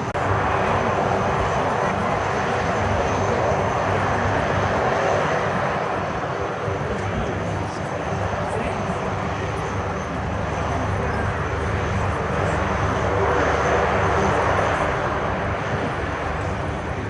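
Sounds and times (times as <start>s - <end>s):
military plane flying past: 0.0s - 17.0s.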